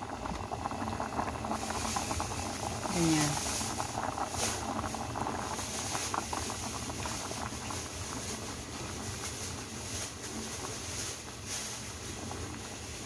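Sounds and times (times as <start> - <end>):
liquid boiling in pot: 0.0 - 13.0.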